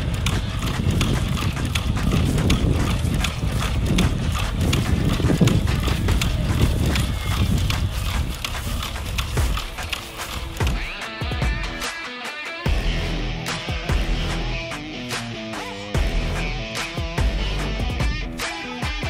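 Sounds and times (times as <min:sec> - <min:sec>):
robot feet tapping on asphalt: 0:00.0 - 0:19.0.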